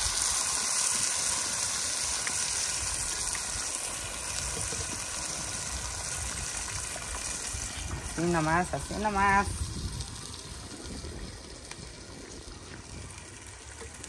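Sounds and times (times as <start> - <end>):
sauce sizzling in hot fat: 0.0 - 14.0.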